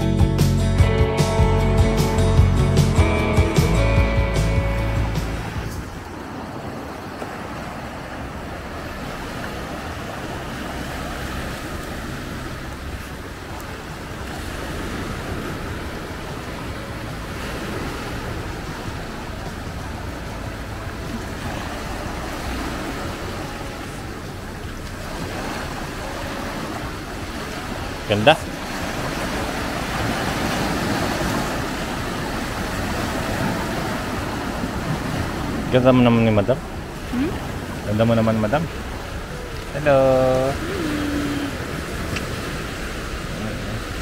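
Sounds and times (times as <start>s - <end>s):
sea waves breaking on sandy shore: 0.0s - 44.0s.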